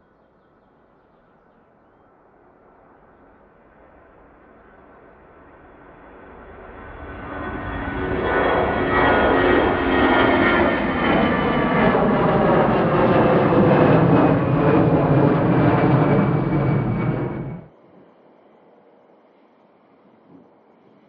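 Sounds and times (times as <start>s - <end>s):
jet airliner engines roaring: 2.1s - 21.0s.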